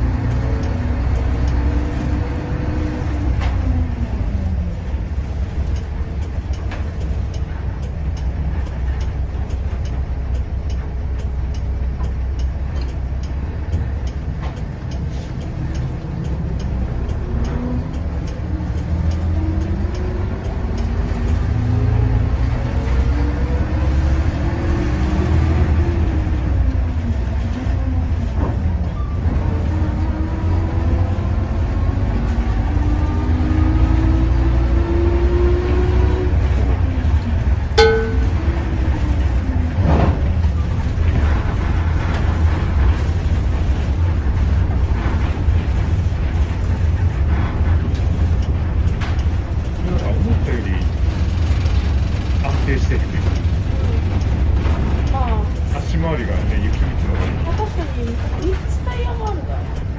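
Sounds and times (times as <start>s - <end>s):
bus engine rumbling: 0.0s - 59.9s.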